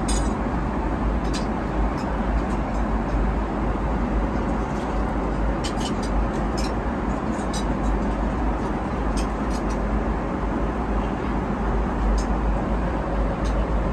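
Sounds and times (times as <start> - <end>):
airliner cabin engine drone: 0.0 - 13.9.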